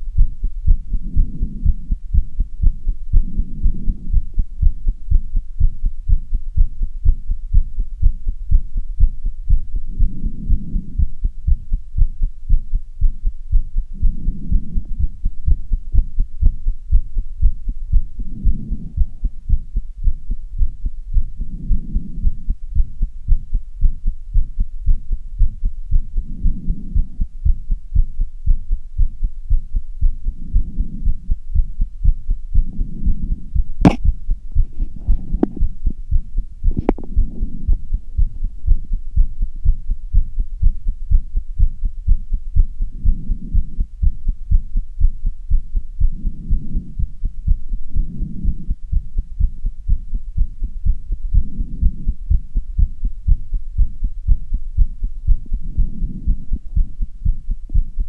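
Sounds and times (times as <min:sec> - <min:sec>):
rapid heartbeat thumps: 0:00.0 - 0:58.0.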